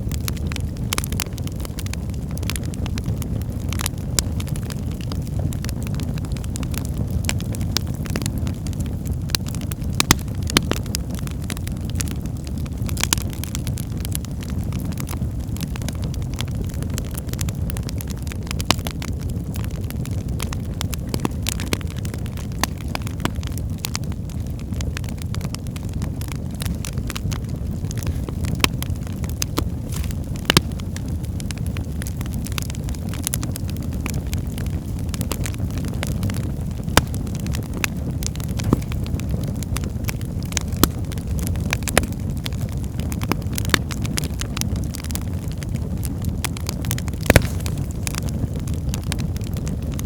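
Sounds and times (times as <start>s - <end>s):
fire crackling and popping: 0.0s - 50.0s
wood fire rumbling: 0.0s - 50.0s.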